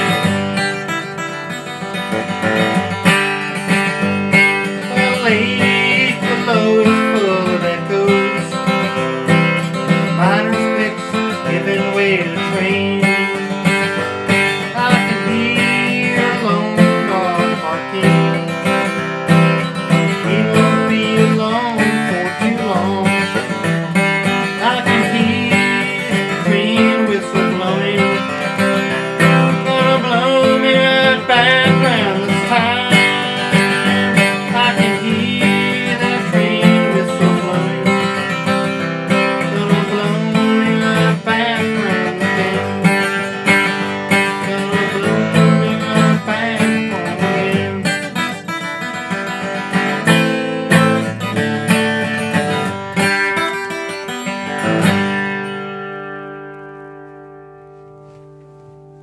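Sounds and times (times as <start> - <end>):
acoustic guitar strummed and picked: 0.0 - 59.0.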